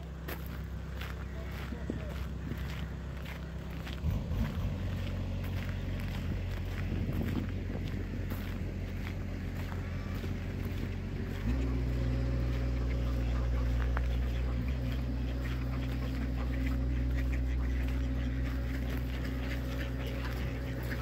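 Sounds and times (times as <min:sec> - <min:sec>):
ducks quacking faintly: 0:00.0 - 0:21.0
low mechanical hum: 0:00.0 - 0:21.0.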